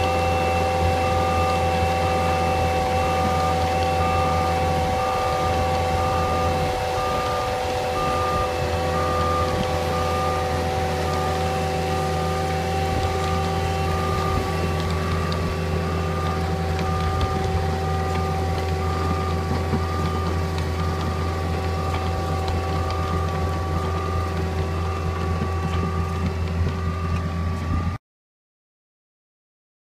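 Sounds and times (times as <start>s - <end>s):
low engine hum: 0.0s - 28.0s
trencher whining tones: 0.0s - 28.0s.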